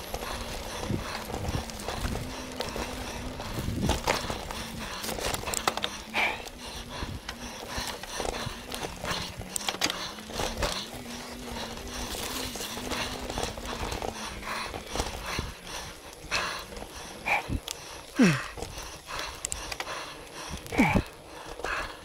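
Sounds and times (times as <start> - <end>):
low wavering hum: 0.0 - 19.5
bike rattling clicks and knocks: 0.0 - 22.0
bike tyres on dirt: 0.0 - 22.0.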